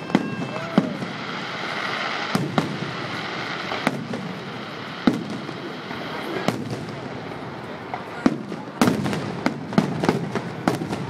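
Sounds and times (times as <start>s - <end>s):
fireworks crackling: 0.0s - 11.0s
fireworks sharp bangs: 0.0s - 11.0s.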